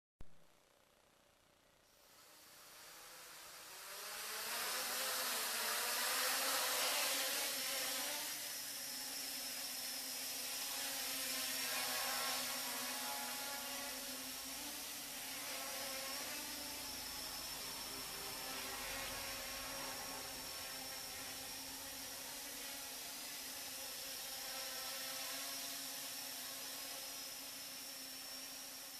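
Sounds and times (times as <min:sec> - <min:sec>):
quadcopter motors buzzing: 0:02.0 - 0:28.9.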